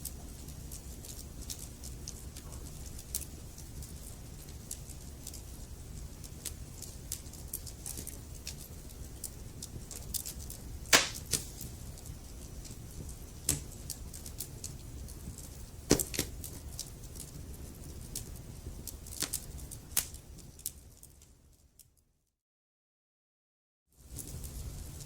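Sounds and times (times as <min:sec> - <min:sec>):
wood fire crackling and popping: 0:00.0 - 0:21.9, 0:24.0 - 0:25.0.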